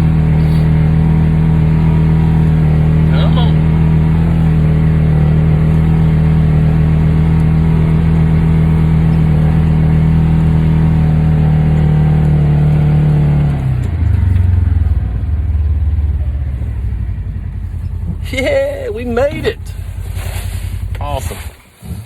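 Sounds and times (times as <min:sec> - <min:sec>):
utility vehicle engine revving: 0:00.0 - 0:22.0.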